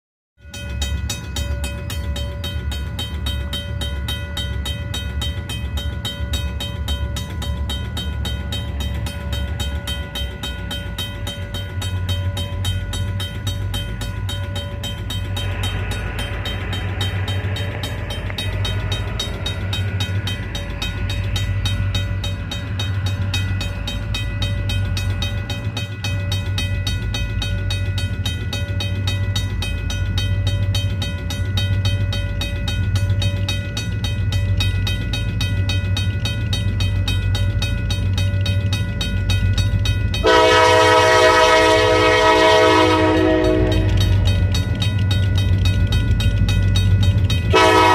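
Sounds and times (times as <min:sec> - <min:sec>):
locomotive engine rumble: 0:00.8 - 0:47.9.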